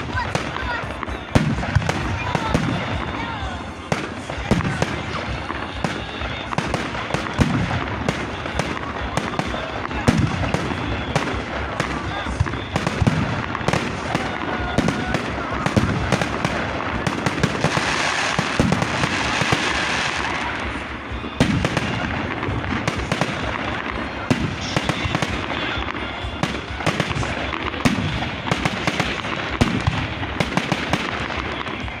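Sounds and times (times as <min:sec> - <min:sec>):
fireworks bangs: 0:00.0 - 0:32.0
fireworks crackle: 0:00.0 - 0:32.0.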